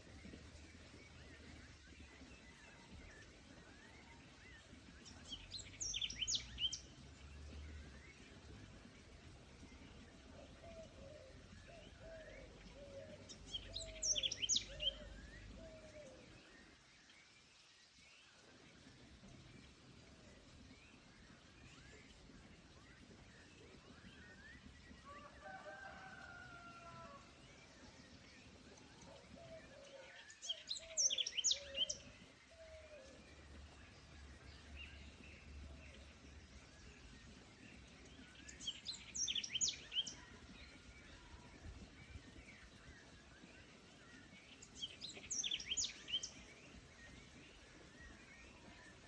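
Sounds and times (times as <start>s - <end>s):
faint forest background: 0.0s - 49.0s.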